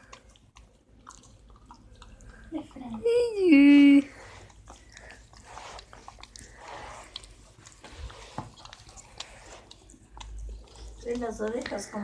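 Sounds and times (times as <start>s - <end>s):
dog chewing and licking: 0.0s - 12.0s.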